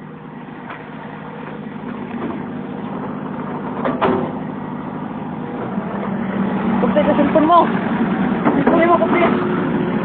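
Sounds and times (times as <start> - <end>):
backhoe diesel engine running: 0.0 - 10.0.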